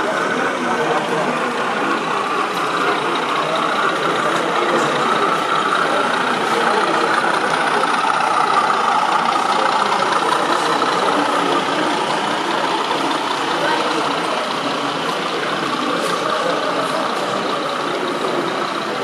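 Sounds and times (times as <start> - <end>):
diesel locomotive engine: 0.0 - 19.0.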